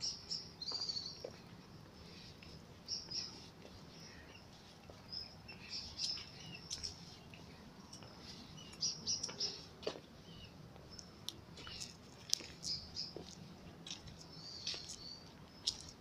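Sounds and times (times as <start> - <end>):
faint low background noise: 0.0 - 16.0
small birds chirping: 0.0 - 16.0.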